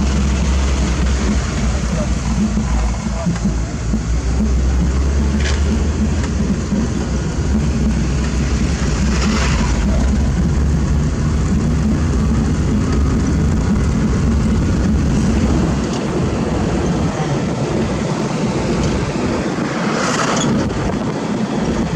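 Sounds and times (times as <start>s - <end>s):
diesel construction machinery rumbling: 0.0s - 21.9s.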